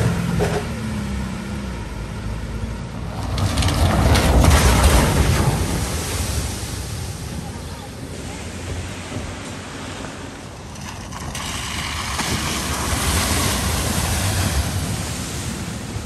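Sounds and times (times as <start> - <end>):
vehicle splashing through floodwater: 0.0 - 16.0.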